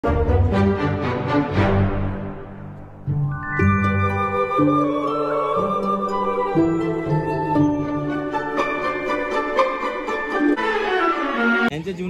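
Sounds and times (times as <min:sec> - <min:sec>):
slow melodic instrumental music: 0:00.0 - 0:11.7.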